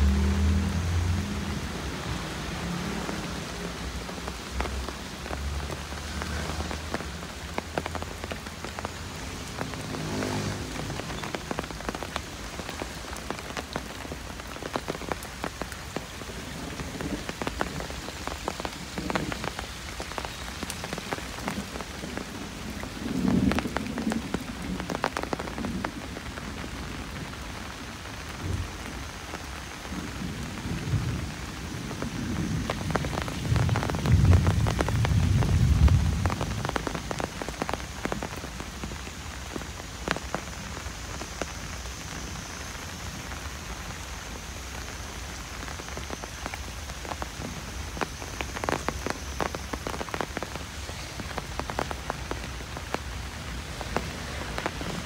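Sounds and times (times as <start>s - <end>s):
light drizzle on concrete and leaves: 0.0s - 55.0s.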